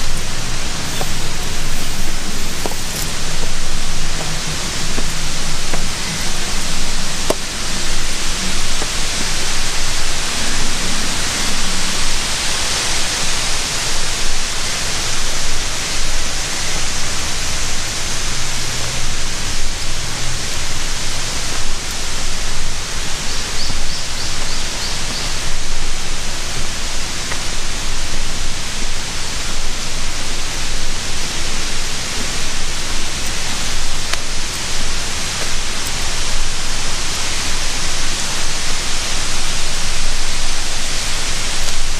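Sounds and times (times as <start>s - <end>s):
loud rush of water: 0.0s - 41.9s.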